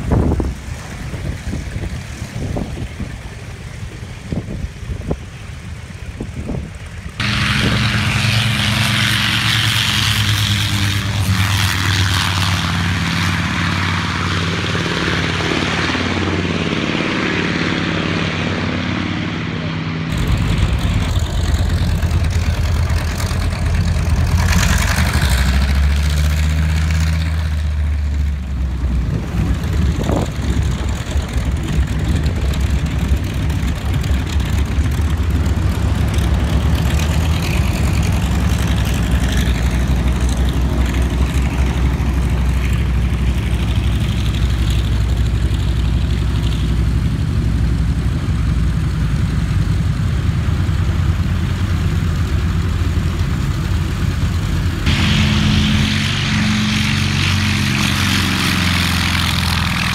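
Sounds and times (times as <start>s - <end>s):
propeller plane engine rumbling: 0.0s - 59.9s.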